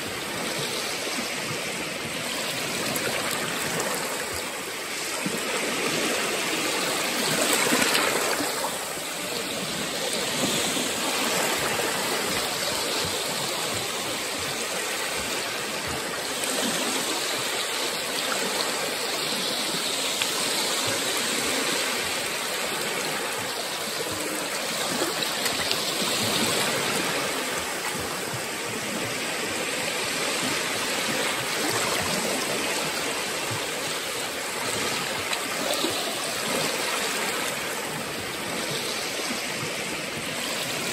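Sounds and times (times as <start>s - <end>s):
small waves lapping on shore: 0.0s - 40.9s.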